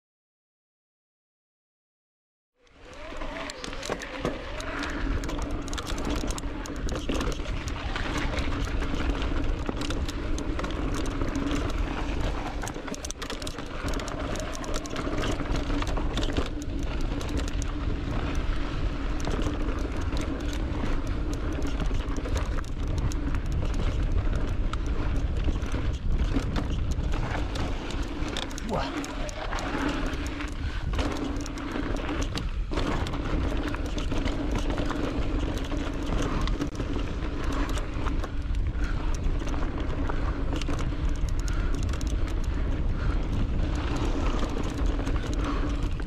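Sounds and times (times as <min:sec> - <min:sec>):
bike rattling and knocking: 0:02.8 - 0:46.0
tyre noise: 0:02.8 - 0:46.0
wind rumble: 0:02.9 - 0:46.0.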